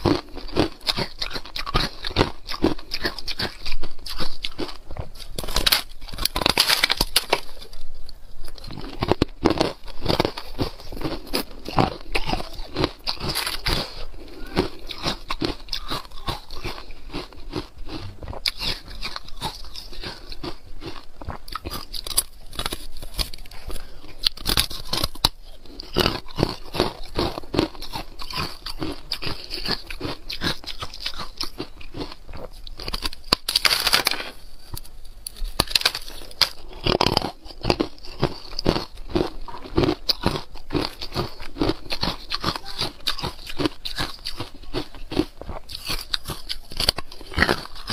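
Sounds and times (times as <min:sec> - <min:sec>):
ice cubes crunching while chewed: 0:00.0 - 0:47.9.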